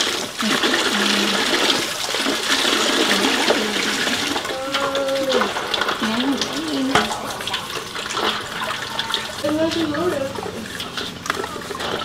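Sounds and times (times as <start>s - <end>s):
hands washing under water: 0.0s - 12.0s
water pouring from pipe: 0.0s - 12.0s.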